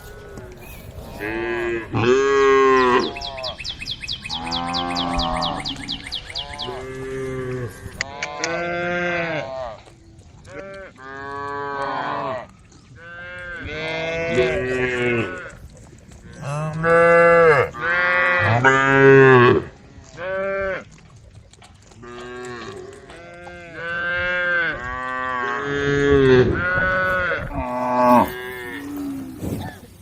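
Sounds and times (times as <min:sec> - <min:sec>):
cows mooing: 0:00.0 - 0:03.7, 0:04.3 - 0:09.9, 0:10.5 - 0:15.6, 0:16.2 - 0:21.0, 0:22.0 - 0:30.0.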